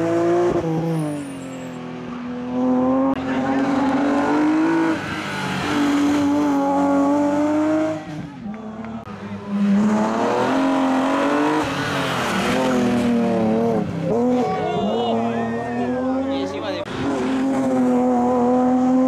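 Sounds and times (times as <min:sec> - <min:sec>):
rally car engine revving: 0:00.0 - 0:01.3, 0:01.9 - 0:19.0.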